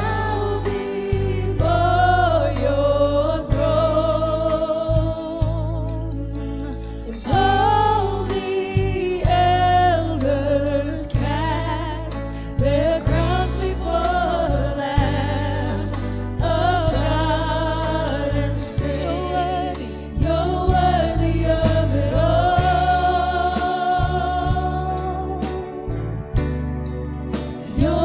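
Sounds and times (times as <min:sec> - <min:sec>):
band playing: 0:00.0 - 0:28.0
bass notes: 0:00.0 - 0:28.0.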